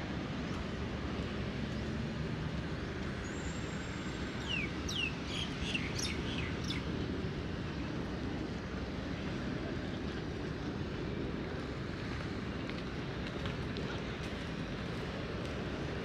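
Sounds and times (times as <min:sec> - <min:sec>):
distant engines: 0:00.0 - 0:16.0
wind: 0:00.0 - 0:16.0.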